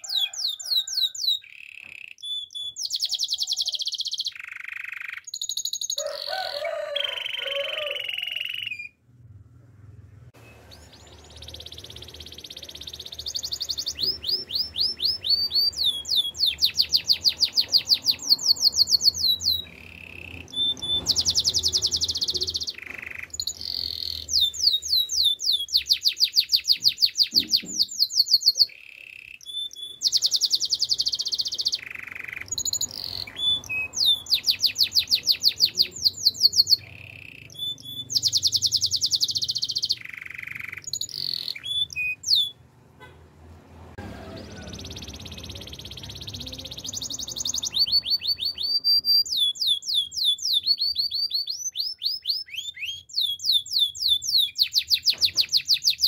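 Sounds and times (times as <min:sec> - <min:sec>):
canary singing trills: 0:00.0 - 0:09.0, 0:10.4 - 0:42.7, 0:44.1 - 0:56.0.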